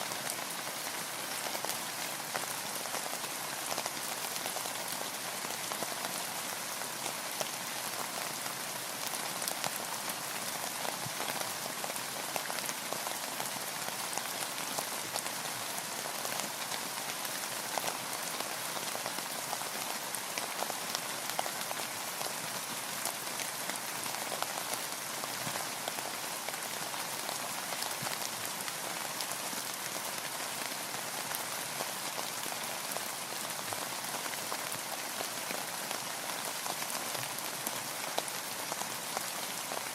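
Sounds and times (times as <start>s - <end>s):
rain falling on a boat: 0.0s - 39.9s.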